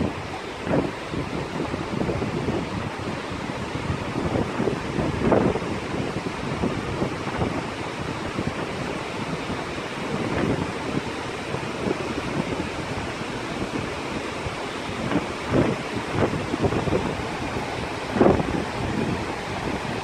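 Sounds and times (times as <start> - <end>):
rain falling: 0.0 - 20.0
wind buffeting the microphone: 0.0 - 20.0.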